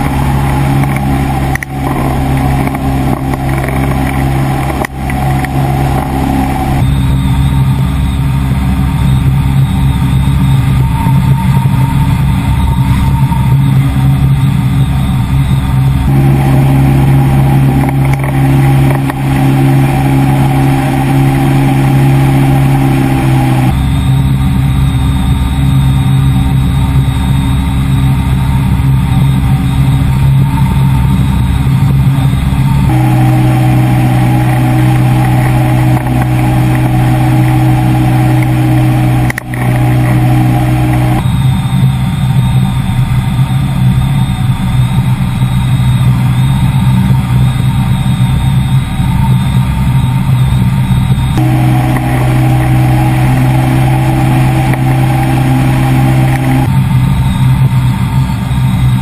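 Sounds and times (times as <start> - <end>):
ultralight engine and propeller drone: 0.0 - 59.0.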